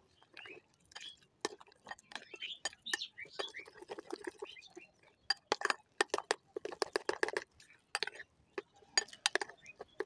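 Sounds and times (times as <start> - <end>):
spoon stirring thick batter: 0.0 - 10.0.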